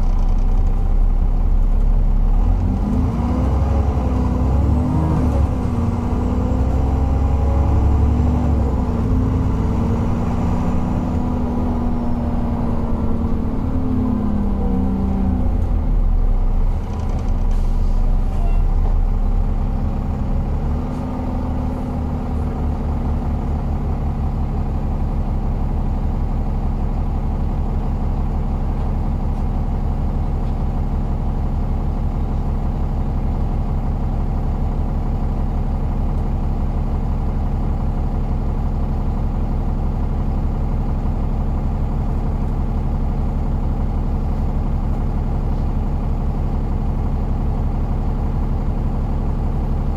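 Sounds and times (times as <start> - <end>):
bus diesel engine idling: 0.0 - 2.9, 3.6 - 49.9.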